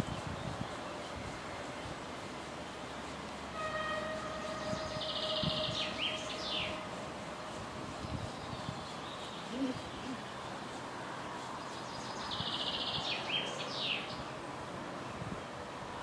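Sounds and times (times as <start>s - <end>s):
songbird singing: 0.0s - 16.0s
steady background noise: 0.0s - 16.0s.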